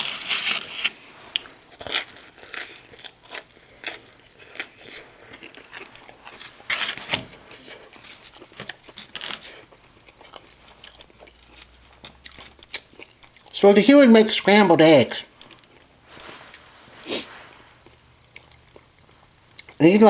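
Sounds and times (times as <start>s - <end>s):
person chewing crunchy food: 0.0s - 13.6s, 15.3s - 19.8s.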